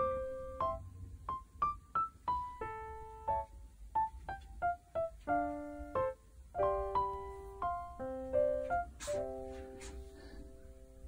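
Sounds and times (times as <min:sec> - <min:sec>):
bouncy piano tune: 0:00.0 - 0:11.0.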